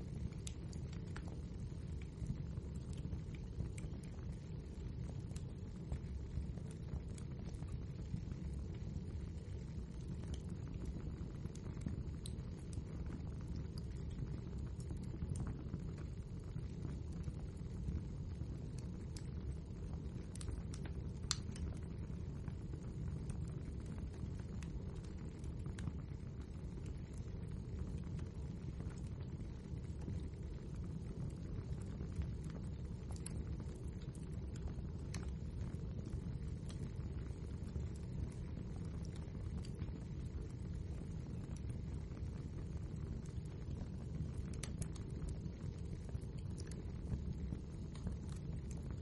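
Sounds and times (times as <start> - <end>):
flames rumbling: 0.0 - 49.0
logs crackling and popping: 0.0 - 49.0.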